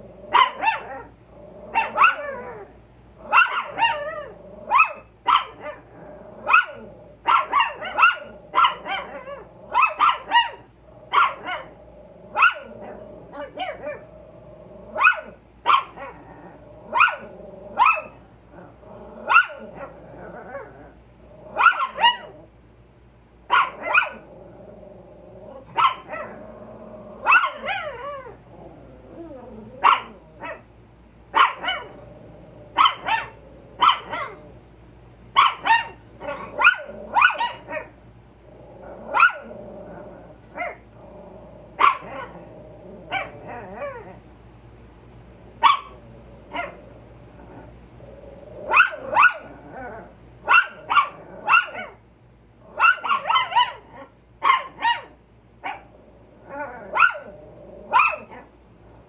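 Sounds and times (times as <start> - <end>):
small dogs barking: 0.0 - 22.5, 23.5 - 34.6, 35.3 - 44.2, 45.6 - 52.0, 52.6 - 58.6.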